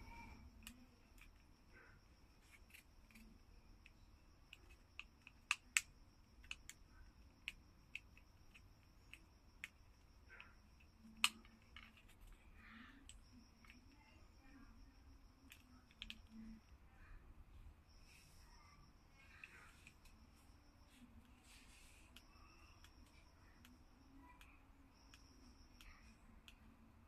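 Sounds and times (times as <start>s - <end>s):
faint high-pitched whine: 0.0s - 27.0s.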